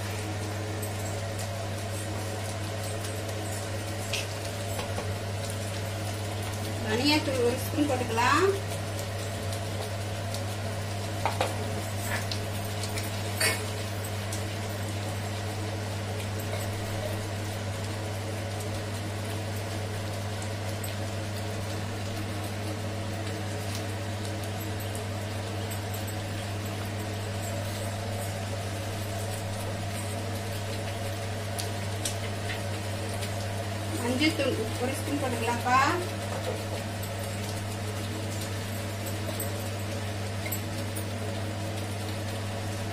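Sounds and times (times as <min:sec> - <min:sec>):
gravy sizzling in a pan: 0:00.0 - 0:42.9
low electrical hum: 0:00.0 - 0:42.9.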